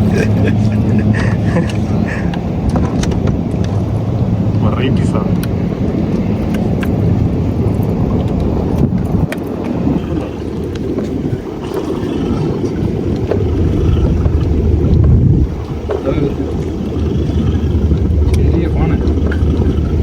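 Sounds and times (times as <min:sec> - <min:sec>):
boat engine low rumble: 0:00.0 - 0:20.0
wind buffeting microphone: 0:00.0 - 0:20.0.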